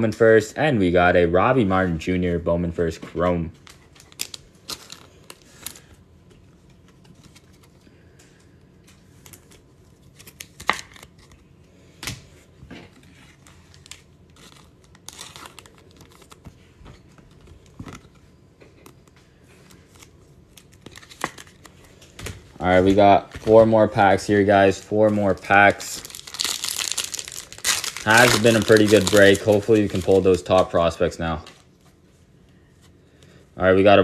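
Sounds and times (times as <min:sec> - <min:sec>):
cards rustling: 0:03.1 - 0:11.5, 0:12.9 - 0:31.9.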